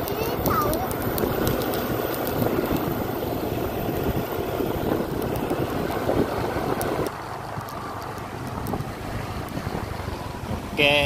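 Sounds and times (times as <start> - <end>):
motorbike engine running: 0.0 - 11.0
wind rushing over microphone: 0.0 - 11.0.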